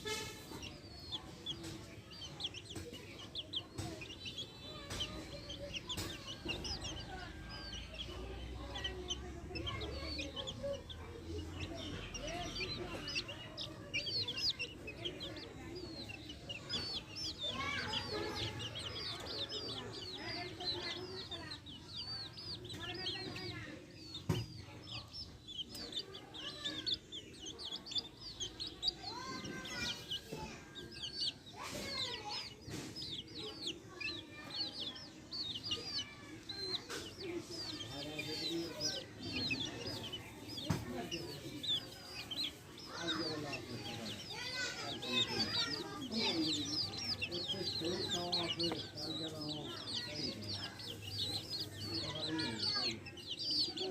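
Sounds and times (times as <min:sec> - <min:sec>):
chicks peeping: 0:00.0 - 0:53.9
hens clucking: 0:00.0 - 0:53.9.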